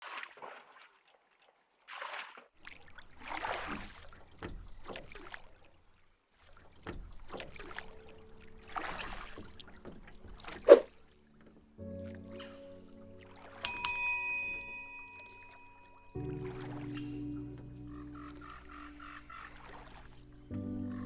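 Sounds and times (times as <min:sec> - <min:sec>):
water splashing from rowing: 0:00.0 - 0:21.0.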